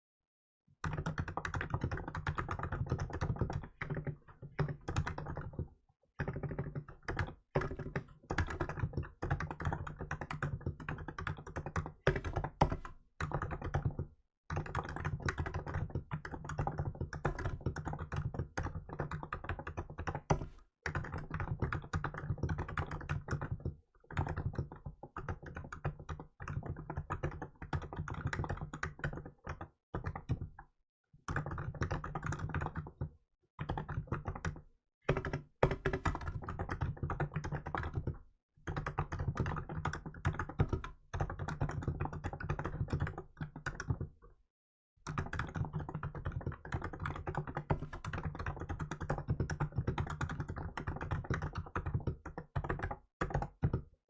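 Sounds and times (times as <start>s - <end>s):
fast typing on a keyboard: 0.8s - 44.3s, 45.0s - 54.0s.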